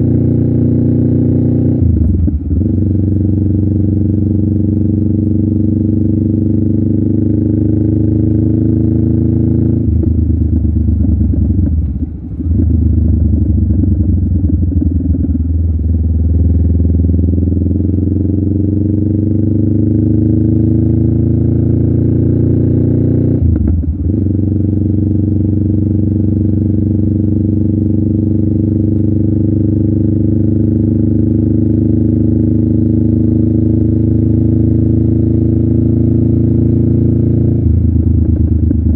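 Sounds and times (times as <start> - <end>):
motorcycle engine exhaust note: 0.0 - 38.9.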